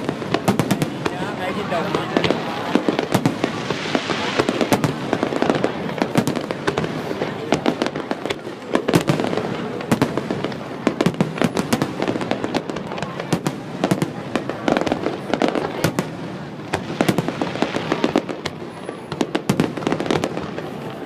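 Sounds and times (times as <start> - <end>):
fireworks bangs and pops: 0.0 - 21.0
fireworks crackling: 0.0 - 21.0.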